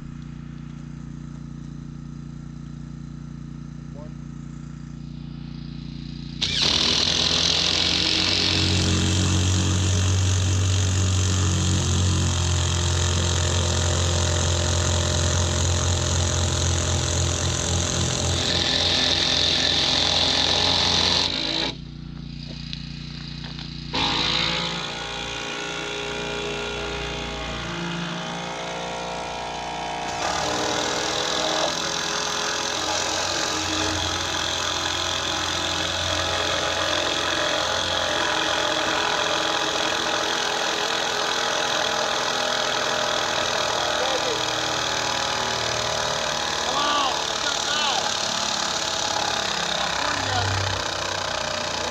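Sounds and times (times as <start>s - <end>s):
impact drivers driving screws into timber: 6.4s - 26.2s, 29.9s - 51.9s.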